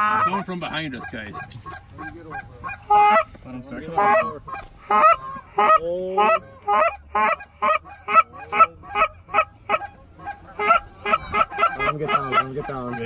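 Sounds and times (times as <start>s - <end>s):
goose honking: 0.0s - 13.0s.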